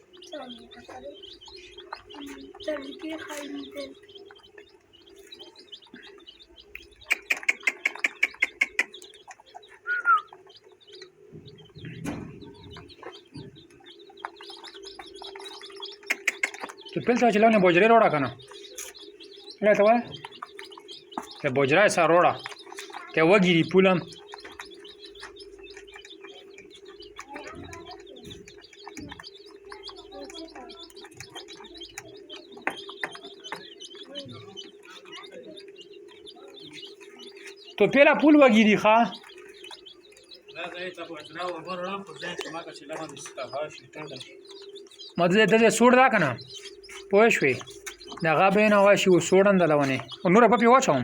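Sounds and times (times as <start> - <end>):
chicks peeping: 0.0 - 51.0
lower falling calls: 0.0 - 51.0
small birds chirping: 0.0 - 51.0
steady low hum: 0.0 - 51.0.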